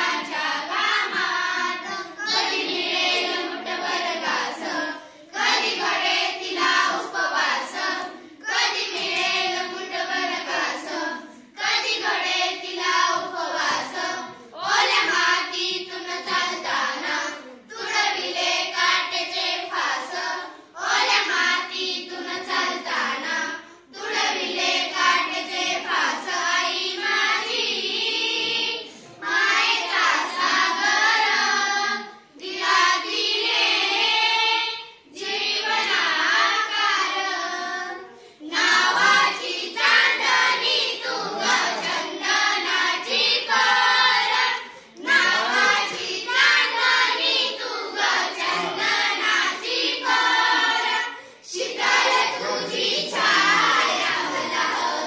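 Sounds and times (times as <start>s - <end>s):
girls singing together: 0.0s - 55.0s.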